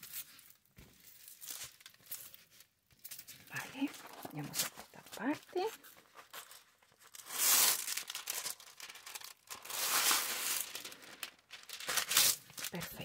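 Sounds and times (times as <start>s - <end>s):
plastic covering crinkling: 0.0s - 13.0s.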